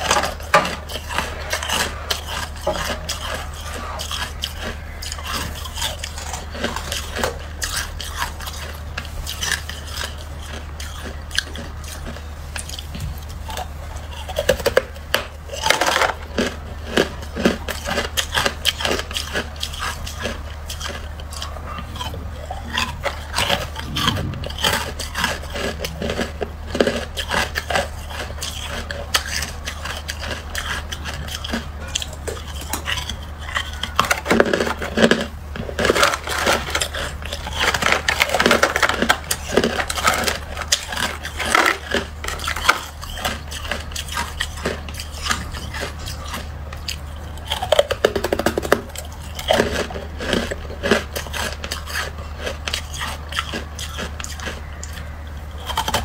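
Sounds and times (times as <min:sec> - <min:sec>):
frost crunching and crackling: 0:00.0 - 0:56.0
steady low hum: 0:00.0 - 0:56.0.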